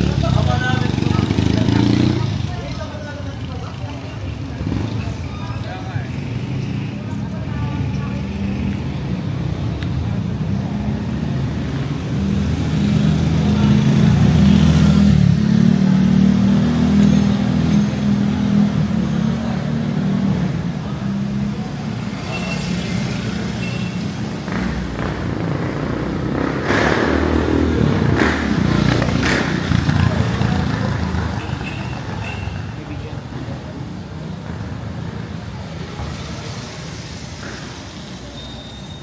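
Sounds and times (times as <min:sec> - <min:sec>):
street noise: 0:00.0 - 0:39.0.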